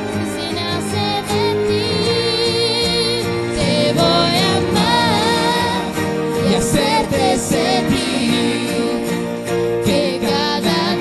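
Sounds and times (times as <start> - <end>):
song with singing voice: 0.0 - 11.0.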